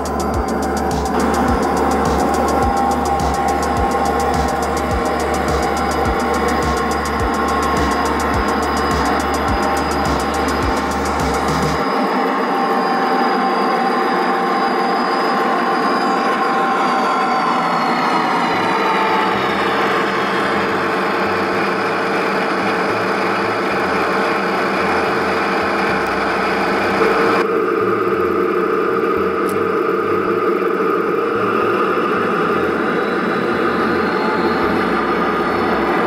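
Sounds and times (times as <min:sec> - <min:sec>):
diesel engine running from speaker: 0:00.0 - 0:36.0.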